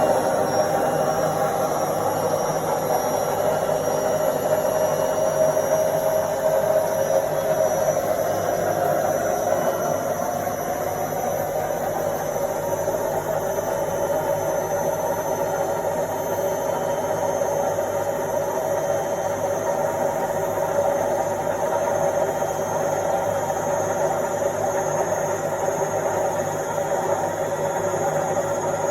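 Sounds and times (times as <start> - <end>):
washing machine spinning: 0.0 - 28.9.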